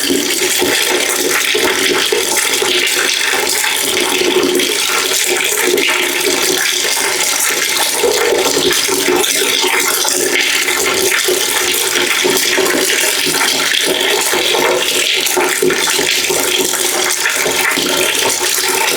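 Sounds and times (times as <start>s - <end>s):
water running into a bucket: 0.0s - 18.9s.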